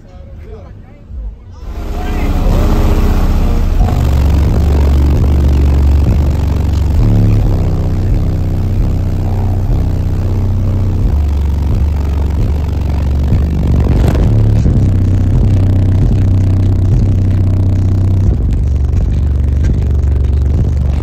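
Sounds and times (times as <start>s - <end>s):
bass-heavy music through subwoofers: 1.6s - 21.0s.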